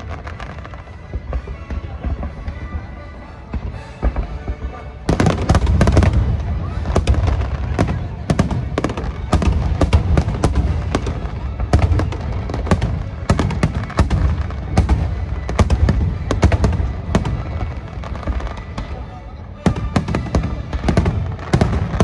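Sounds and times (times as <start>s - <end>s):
fireworks crackling: 0.0s - 2.8s, 3.5s - 19.0s, 19.7s - 22.0s.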